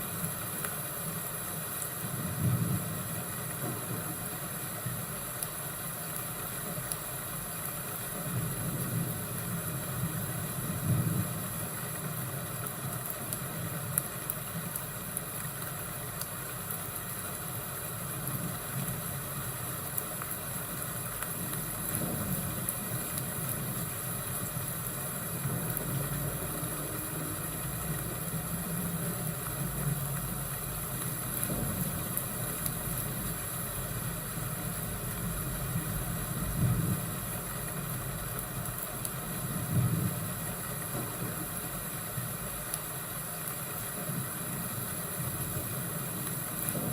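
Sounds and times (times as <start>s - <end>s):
faint fire crackles: 0.0s - 46.9s
steady hiss: 0.0s - 46.9s.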